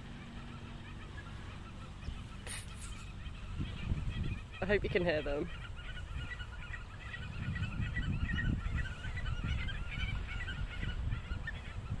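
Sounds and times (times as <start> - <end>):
birds screaming harsh calls: 0.0 - 12.0
wind rumble on microphone: 0.0 - 12.0.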